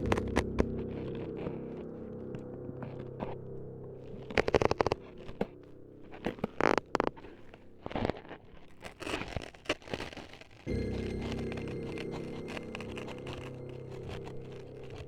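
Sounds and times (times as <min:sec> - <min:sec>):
crisp snipping and crunching: 0:00.0 - 0:15.0.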